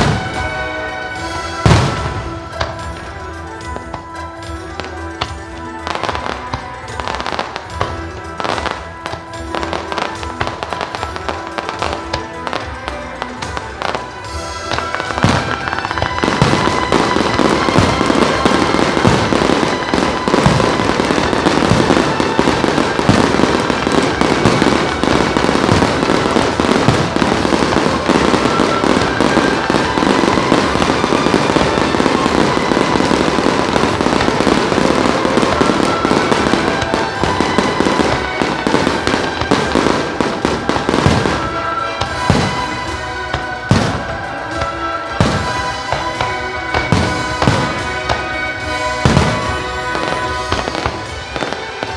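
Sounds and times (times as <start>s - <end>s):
fireworks bangs and crackling: 0.0s - 51.9s
show music: 0.0s - 51.9s.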